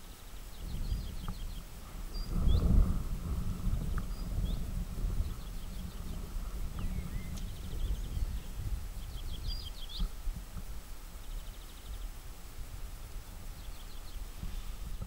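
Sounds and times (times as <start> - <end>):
small birds chirping: 0.0 - 2.9, 3.6 - 10.2, 11.1 - 12.3, 13.1 - 15.0
wind rumble on microphone: 0.0 - 15.0.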